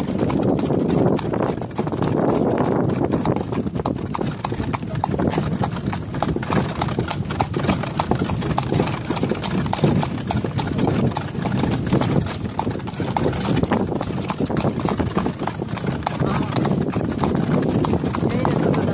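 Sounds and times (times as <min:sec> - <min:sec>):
horse hooves clip-clopping on pavement: 0:00.0 - 0:18.9.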